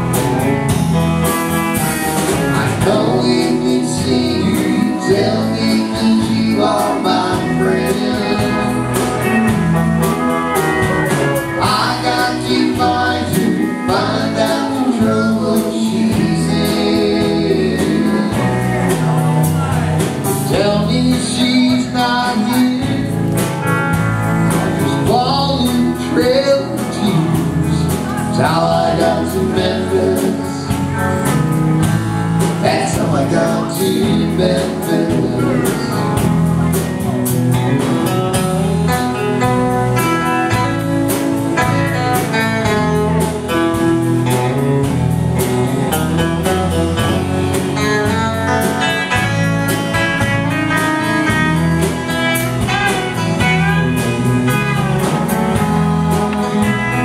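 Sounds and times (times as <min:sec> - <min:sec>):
live country band playing: 0:00.0 - 0:57.0
pedal steel guitar gliding notes: 0:00.0 - 0:57.0.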